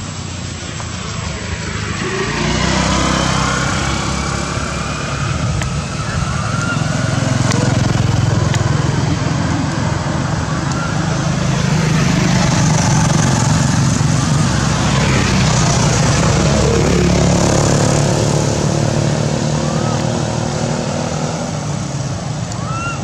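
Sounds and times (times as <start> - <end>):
vehicle engine rumble passing: 0.0 - 23.0.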